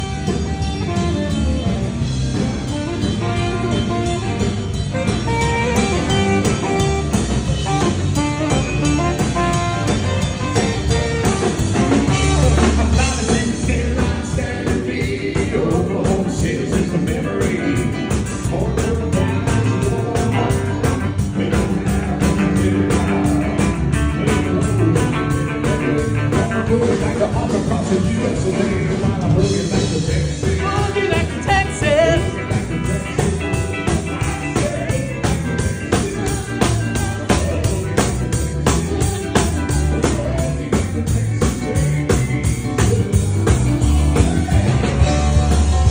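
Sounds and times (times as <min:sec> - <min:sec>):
live rock band playing: 0:00.0 - 0:45.9
steady drum beat: 0:00.0 - 0:45.9
person singing: 0:05.2 - 0:45.9.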